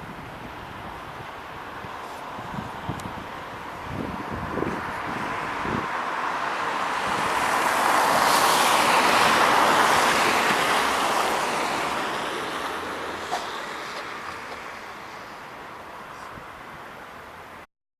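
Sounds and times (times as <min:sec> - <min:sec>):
vehicle passing by: 0:01.8 - 0:16.4.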